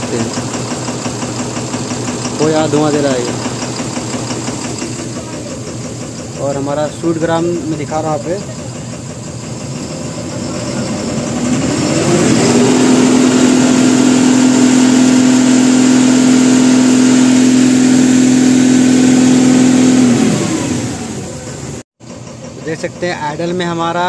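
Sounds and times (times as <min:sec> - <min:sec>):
diesel truck engine revving: 0:00.0 - 0:21.9.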